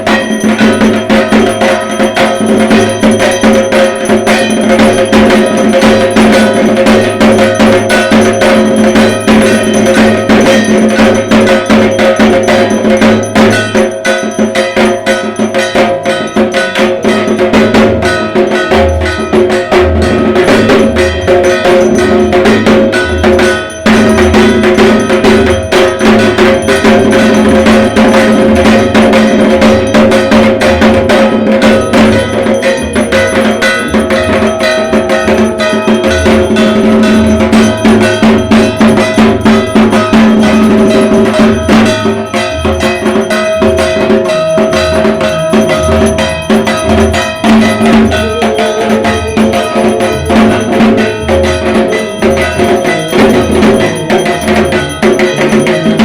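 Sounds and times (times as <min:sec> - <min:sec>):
drums beaten with sticks: 0:00.0 - 0:56.0
ringing metal percussion: 0:00.0 - 0:56.0.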